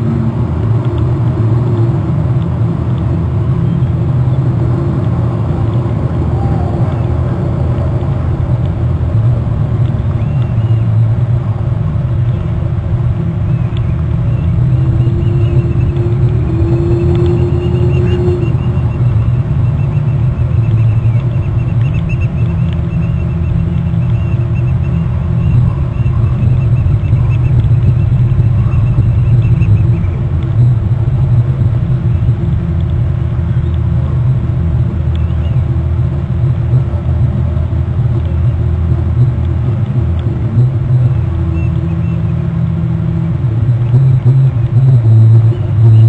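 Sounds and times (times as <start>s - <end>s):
faint constant hum: 0.0s - 46.0s
low rumble: 0.0s - 46.0s.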